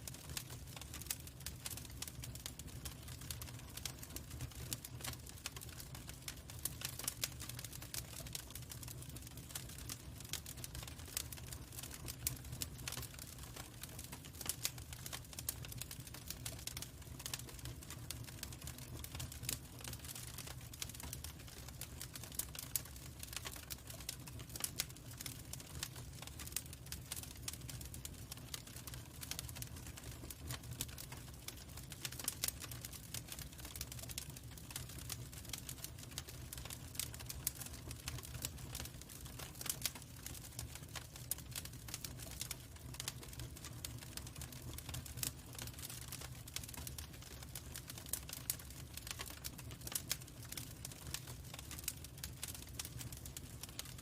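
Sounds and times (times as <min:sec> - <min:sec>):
log fire crackling and popping: 0:00.0 - 0:54.0
low rumble of fire: 0:00.0 - 0:54.0.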